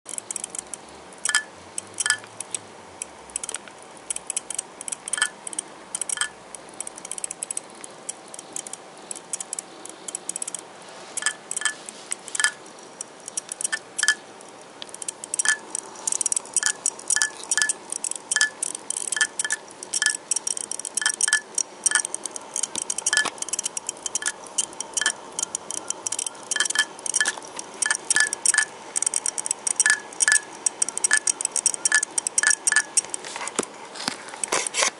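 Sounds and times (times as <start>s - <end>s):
hard disk ringing clicks: 0.1s - 33.2s
hard disk drive whir: 0.1s - 34.9s.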